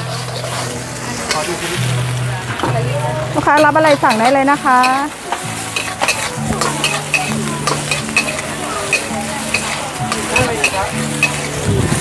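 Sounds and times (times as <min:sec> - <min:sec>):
metal spatula scraping a wok: 0:00.0 - 0:01.8, 0:03.5 - 0:11.7
food sizzling in hot oil: 0:00.0 - 0:12.0.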